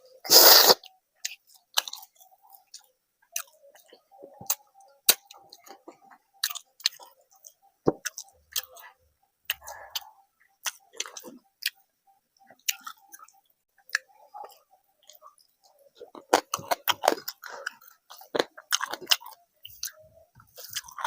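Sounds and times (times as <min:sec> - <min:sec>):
person chewing food: 0:00.3 - 0:21.0.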